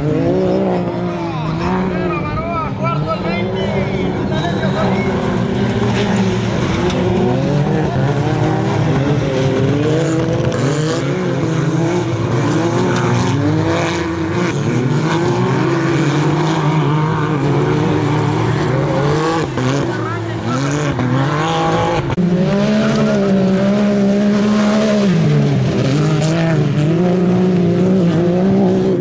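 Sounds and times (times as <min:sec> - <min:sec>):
race car engines revving hard: 0:00.0 - 0:29.0.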